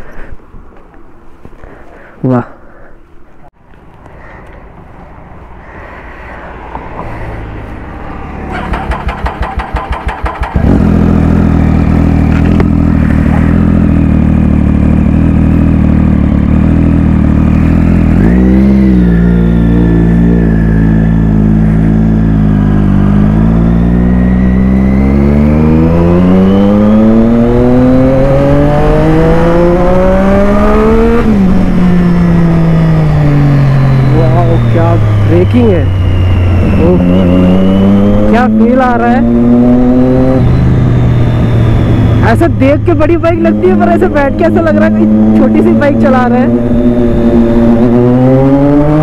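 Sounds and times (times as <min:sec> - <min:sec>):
motorcycle engine starting and revving: 0:07.1 - 0:49.0.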